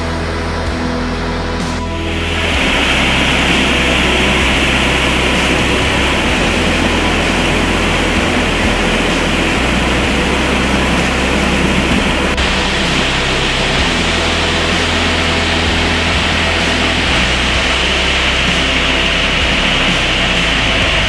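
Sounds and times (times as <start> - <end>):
rapids rushing water: 2.0 - 21.0.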